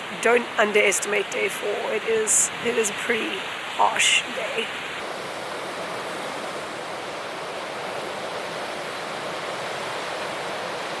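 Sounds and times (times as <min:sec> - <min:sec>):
ocean surf rushing hiss: 0:00.0 - 0:11.0.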